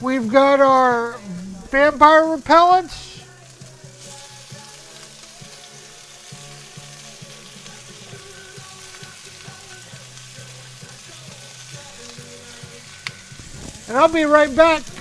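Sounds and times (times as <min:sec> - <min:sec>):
onions and garlic sizzling: 0:00.0 - 0:15.0.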